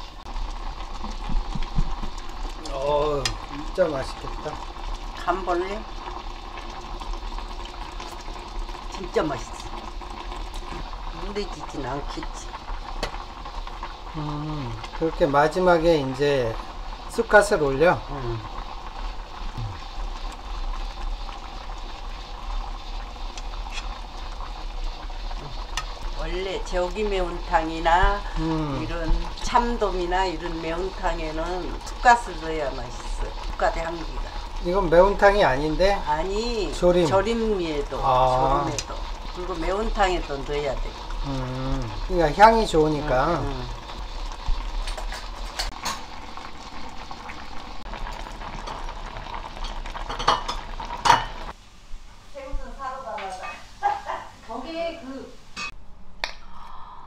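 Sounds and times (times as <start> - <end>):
stew bubbling in a pot: 0.0 - 51.6, 52.2 - 55.7.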